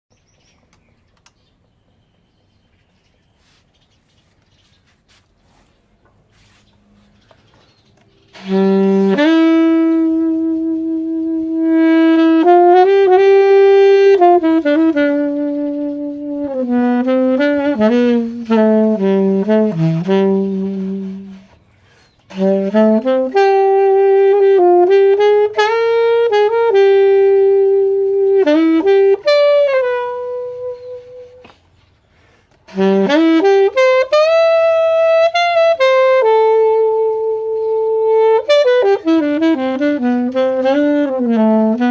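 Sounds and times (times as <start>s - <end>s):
solo alto saxophone melody: 8.2s - 41.9s.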